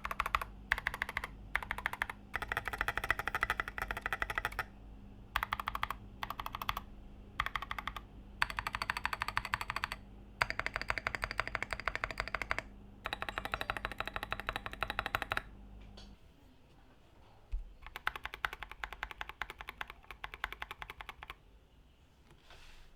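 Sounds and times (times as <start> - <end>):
rapid mechanical keyboard typing: 0.0 - 4.7, 5.3 - 15.5, 17.8 - 21.4.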